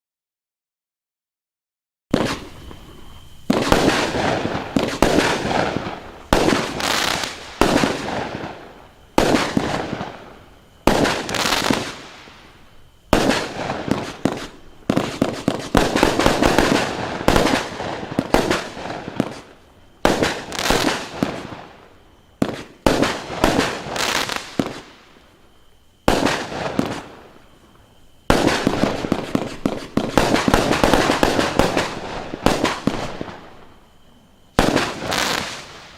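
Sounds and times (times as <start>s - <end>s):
fireworks banging: 2.1s - 35.9s.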